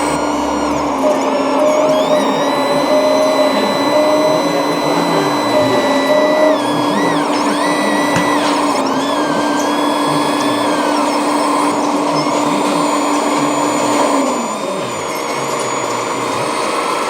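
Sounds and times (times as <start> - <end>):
small electric motor whining: 0.0 - 17.0
steady hum: 0.0 - 17.0.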